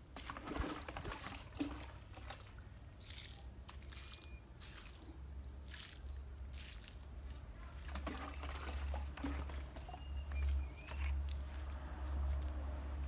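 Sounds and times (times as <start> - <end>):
water scooped from bucket: 0.0 - 12.4
water splashing onto soil: 0.0 - 13.0.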